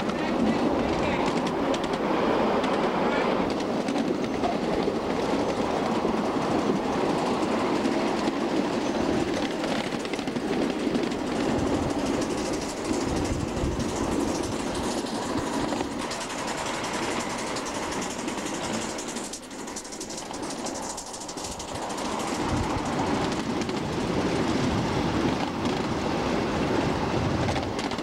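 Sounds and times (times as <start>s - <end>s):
small train wheels rolling on rails: 0.0s - 28.0s.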